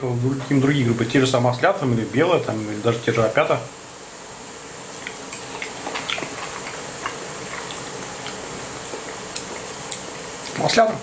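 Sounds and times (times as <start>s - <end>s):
frying pan sizzling: 0.0s - 11.0s.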